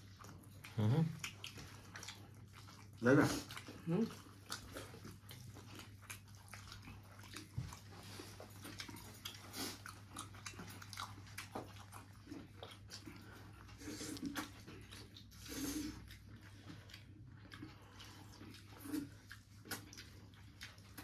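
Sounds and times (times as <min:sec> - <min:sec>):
people chewing: 0:00.0 - 0:21.0.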